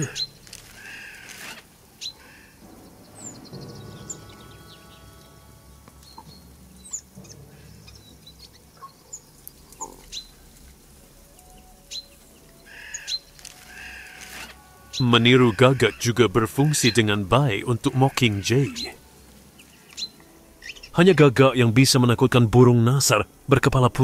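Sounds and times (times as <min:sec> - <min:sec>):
songbirds chirping and whistling: 0:00.0 - 0:22.0.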